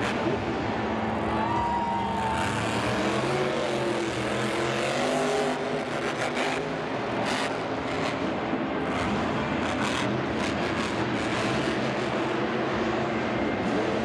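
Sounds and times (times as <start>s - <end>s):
truck engine revving: 2.1s - 14.0s.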